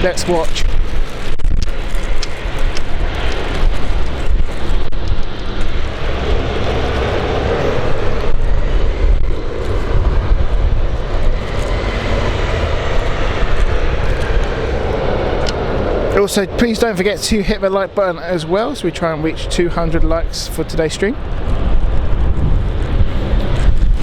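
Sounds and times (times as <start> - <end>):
aircraft engines running: 0.0 - 24.0
wind rumble on microphone: 0.0 - 24.0.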